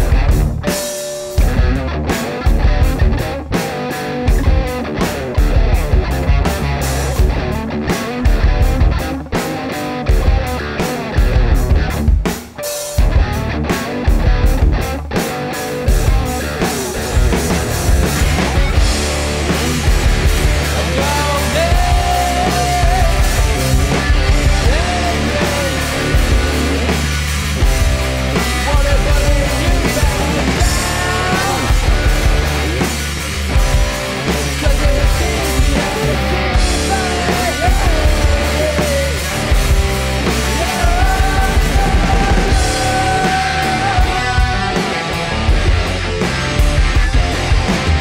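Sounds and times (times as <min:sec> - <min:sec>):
bending lead guitar notes: 0:00.0 - 0:48.0
drum kit played hard: 0:00.0 - 0:48.0
electric guitar: 0:00.0 - 0:48.0.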